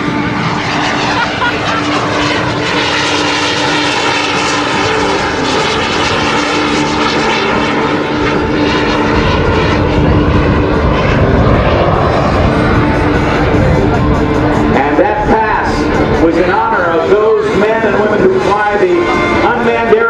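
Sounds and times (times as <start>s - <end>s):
jet engine whine: 0.0s - 20.0s
low rumble: 0.0s - 20.0s.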